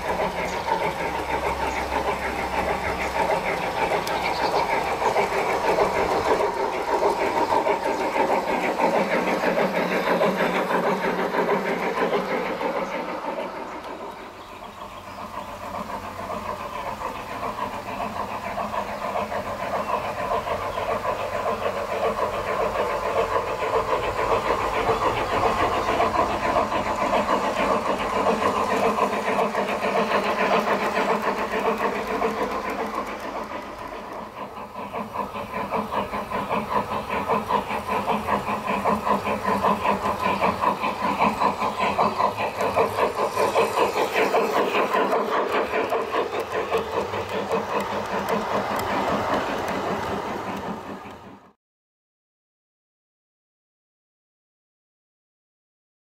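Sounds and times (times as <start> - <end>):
model train running on rails: 0.0 - 51.6.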